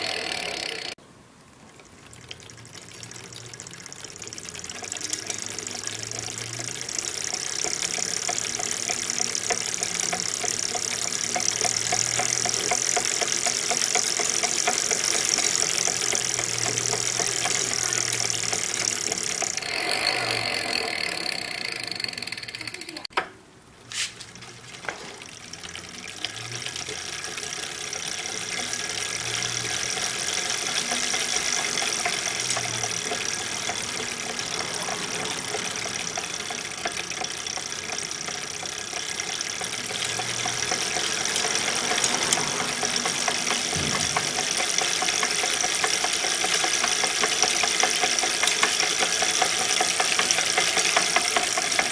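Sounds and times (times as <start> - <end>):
bike drivetrain running: 0.0 - 1.0, 1.8 - 23.2, 23.9 - 51.9
sharp freewheel clicks: 0.0 - 1.0, 1.7 - 23.3, 24.0 - 51.9
low knock from drivetrain: 4.4 - 23.4, 26.2 - 51.9.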